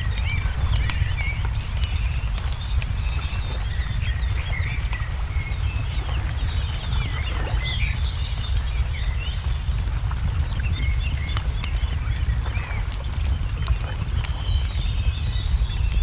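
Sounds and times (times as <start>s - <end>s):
low rumble: 0.0s - 16.0s
small birds chirping: 0.0s - 16.0s
wood fire crackling: 0.0s - 16.0s.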